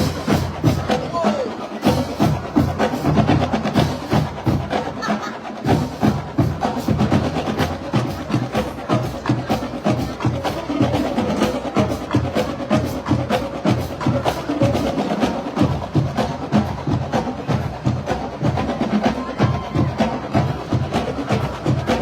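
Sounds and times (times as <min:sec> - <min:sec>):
drumline playing: 0:00.0 - 0:22.0.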